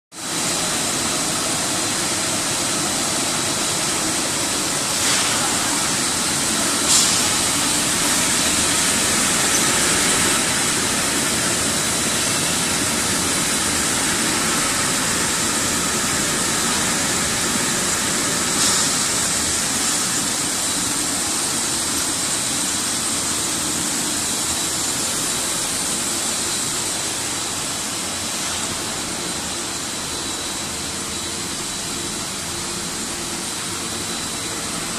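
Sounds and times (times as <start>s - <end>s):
extrusion machinery running: 0.2s - 34.9s.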